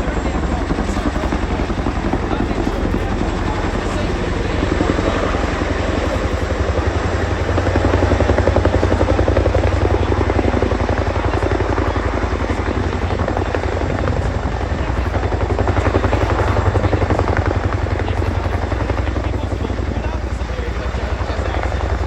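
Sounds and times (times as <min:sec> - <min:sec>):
deep helicopter drone: 0:00.0 - 0:22.0
helicopter rotor blades beating: 0:00.0 - 0:22.0.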